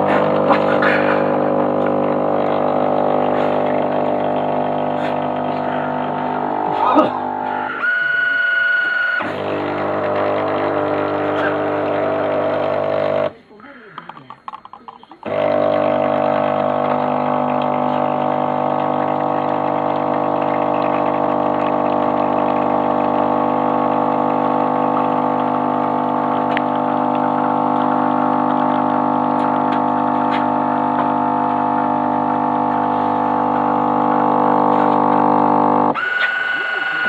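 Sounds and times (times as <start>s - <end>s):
coffee streaming: 0.0s - 13.3s, 14.2s - 37.0s
espresso machine pump humming: 0.0s - 13.3s, 15.2s - 37.0s.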